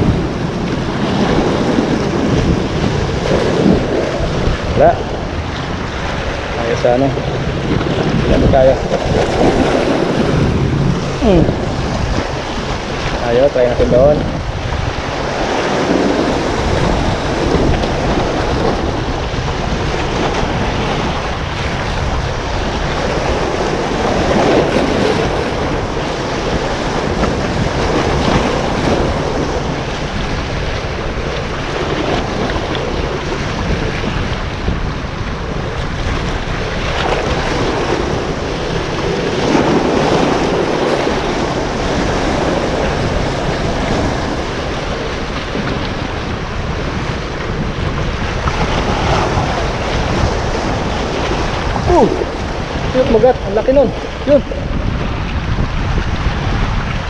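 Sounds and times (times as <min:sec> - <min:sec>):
sea waves breaking on rocks: 0:00.0 - 0:57.0
wind buffeting microphone: 0:00.0 - 0:57.0.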